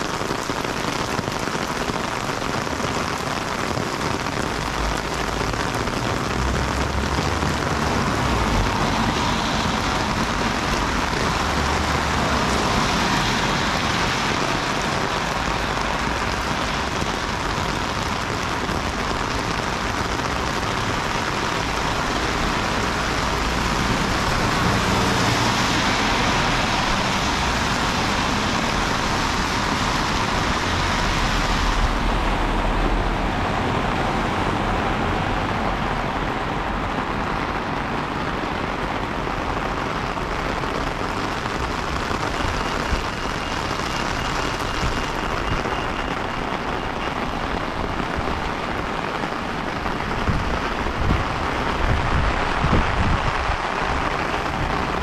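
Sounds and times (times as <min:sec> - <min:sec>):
heavy rain falling: 0:00.0 - 0:55.0
road traffic rumble: 0:00.0 - 0:55.0.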